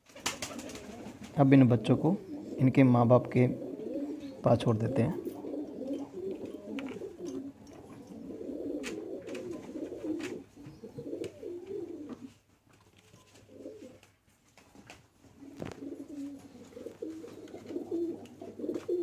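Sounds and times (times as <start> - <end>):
pigeons cooing: 0.0 - 12.4, 13.5 - 14.0, 15.3 - 19.0.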